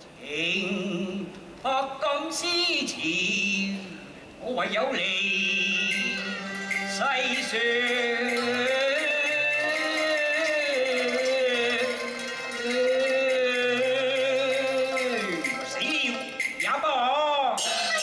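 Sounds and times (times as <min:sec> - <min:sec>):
opera music with held notes: 0:00.0 - 0:18.0.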